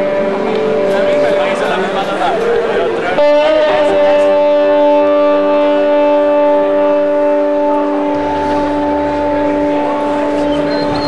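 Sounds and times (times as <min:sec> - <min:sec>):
electric guitar chord ringing: 0:00.0 - 0:11.0
low guitar note: 0:00.0 - 0:11.0.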